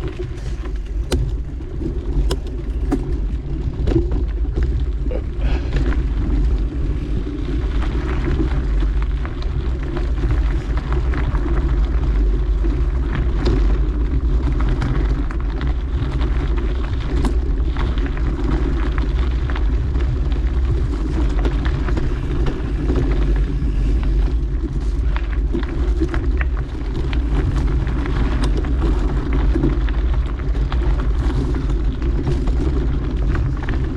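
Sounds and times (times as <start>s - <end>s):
bike clicks and rattles: 0.0s - 33.9s
wind and tyre rumble: 0.0s - 33.9s.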